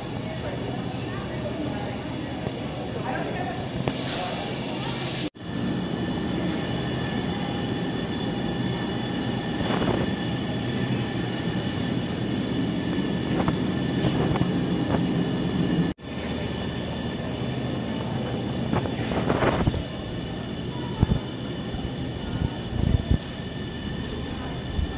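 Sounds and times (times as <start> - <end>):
refrigeration and ventilation hum: 0.0 - 24.9.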